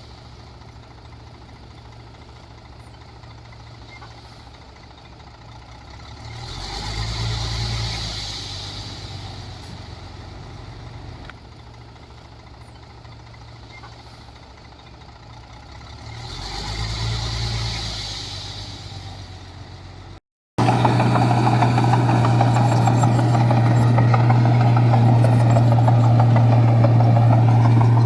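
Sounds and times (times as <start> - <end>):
close diesel engine rattling: 0.0 - 28.0
diesel machinery engine hum: 0.0 - 28.0.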